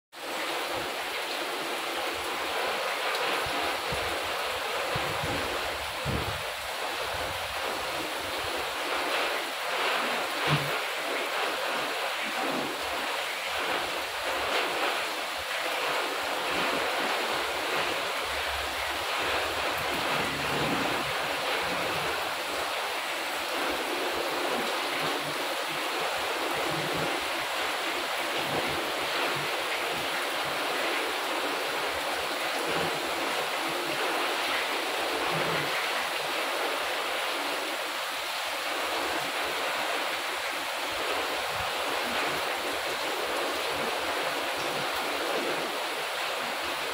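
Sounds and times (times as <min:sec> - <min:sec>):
heavy rain on pavement and roof: 0:00.1 - 0:46.9.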